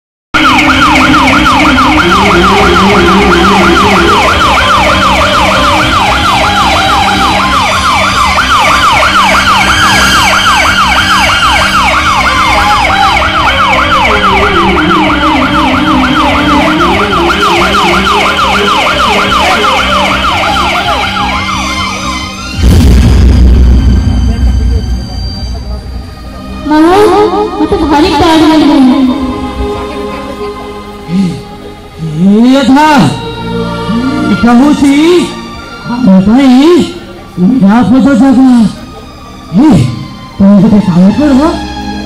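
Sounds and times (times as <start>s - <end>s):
slow gliding melody: 0.4s - 22.6s, 24.2s - 42.0s
electronic siren wailing: 0.4s - 41.8s.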